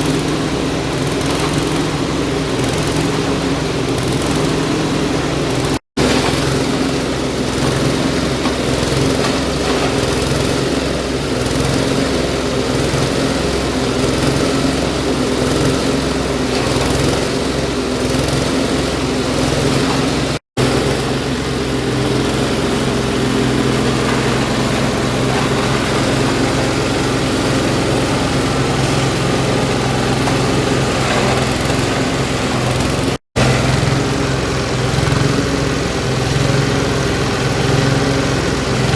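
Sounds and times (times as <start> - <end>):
chopper machine engine running: 0.0 - 38.9.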